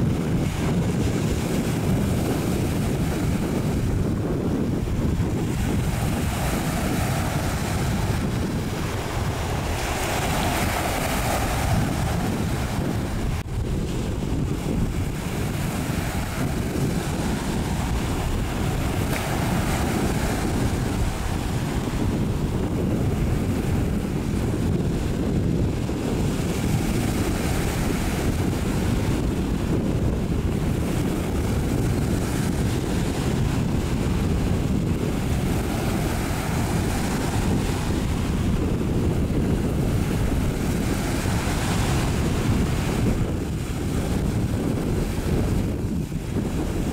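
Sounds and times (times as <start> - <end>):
sea waves washing: 0.0 - 46.9
wind rumbling on microphone: 0.0 - 46.9.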